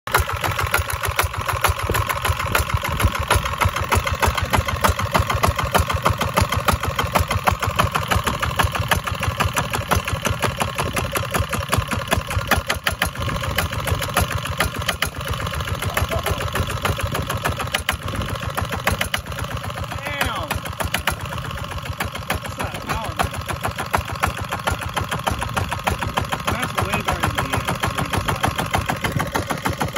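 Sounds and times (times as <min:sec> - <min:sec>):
diesel engine running: 0:00.1 - 0:29.9.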